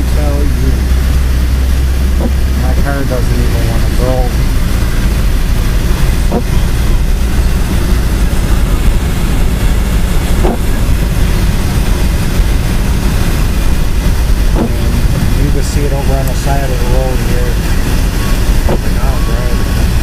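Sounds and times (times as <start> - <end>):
car engine: 0.0 - 20.0
wind: 0.0 - 20.0.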